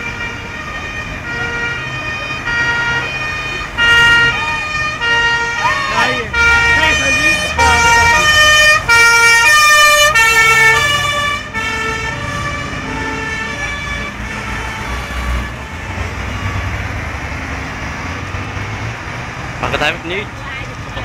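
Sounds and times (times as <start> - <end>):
two-tone emergency siren: 0.0 - 16.9
road traffic rumble: 0.0 - 21.0.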